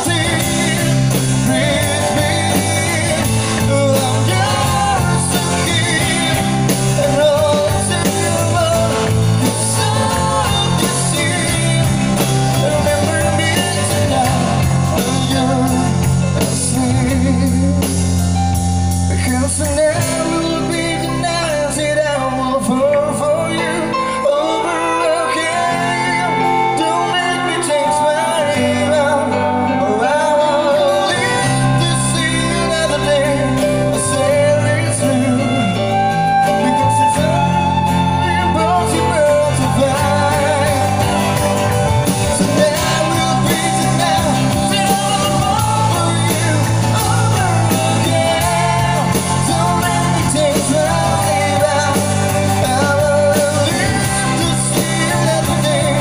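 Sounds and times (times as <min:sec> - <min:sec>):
live band playing pop-rock ballad: 0:00.0 - 0:56.0.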